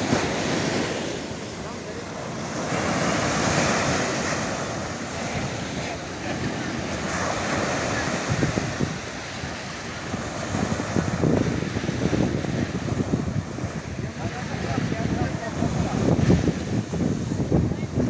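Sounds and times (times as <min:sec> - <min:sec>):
small surf breaking on sand: 0:00.0 - 0:18.0
wind buffeting microphone: 0:00.0 - 0:18.0.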